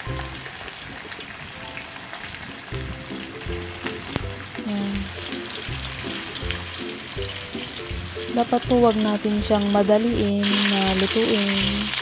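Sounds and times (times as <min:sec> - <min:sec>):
background music: 0:00.0 - 0:12.0
oil sizzling and crackling: 0:00.0 - 0:12.0.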